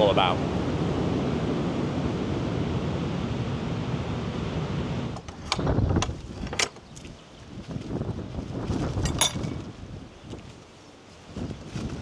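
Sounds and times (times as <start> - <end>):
strong storm wind: 0.0 - 12.0
wind buffeting microphone: 0.0 - 12.0.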